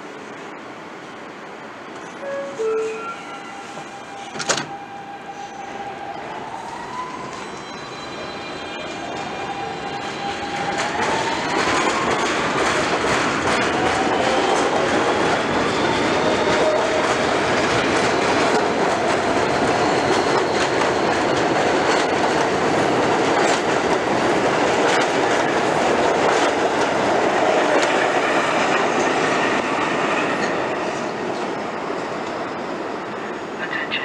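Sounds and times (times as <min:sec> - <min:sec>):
subway train passing: 0:00.0 - 0:34.0.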